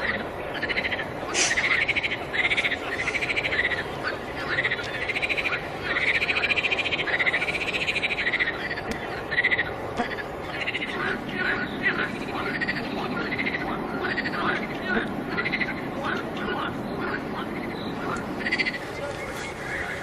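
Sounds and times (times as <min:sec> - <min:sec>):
frogs croaking: 0:00.0 - 0:20.0.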